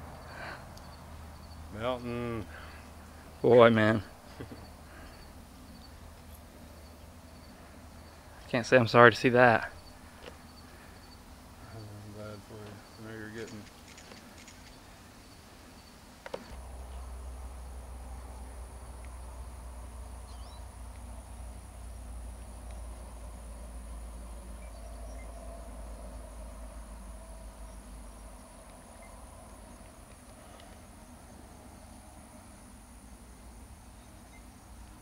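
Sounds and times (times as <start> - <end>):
high insect chirring: 0.0 - 35.0.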